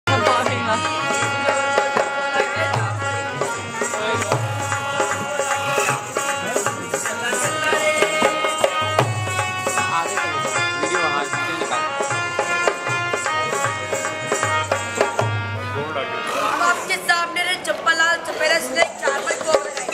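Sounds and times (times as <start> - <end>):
hand drum rhythm: 0.1 - 15.7, 18.4 - 19.9
harmonium chords: 0.1 - 19.9.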